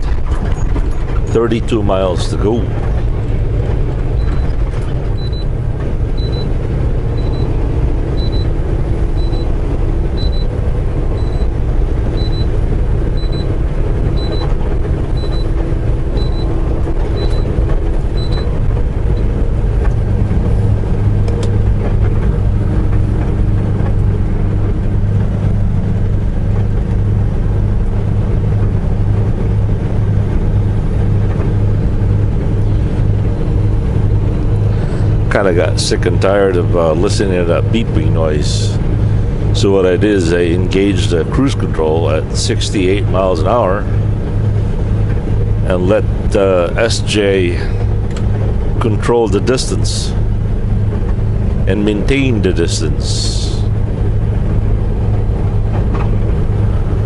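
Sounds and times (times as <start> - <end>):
truck engine and road drone: 0.0 - 57.0.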